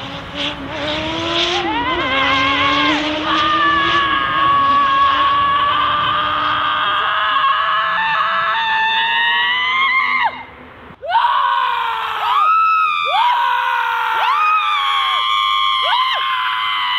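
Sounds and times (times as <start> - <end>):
women screaming: 1.5 - 16.9.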